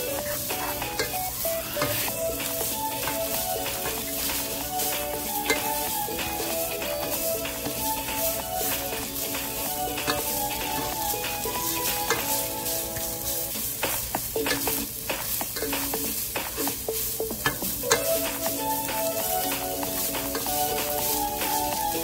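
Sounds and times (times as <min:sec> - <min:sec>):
chicken sizzling in oil: 0:00.0 - 0:22.0
spatula clicking and scraping pan: 0:00.0 - 0:22.0.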